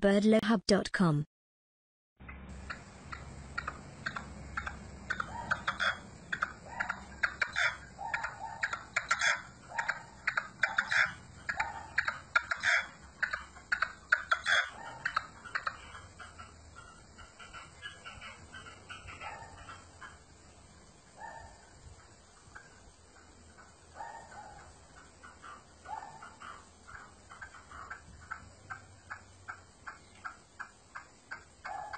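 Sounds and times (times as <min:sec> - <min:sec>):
partridge chucking calls: 0:02.3 - 0:31.9.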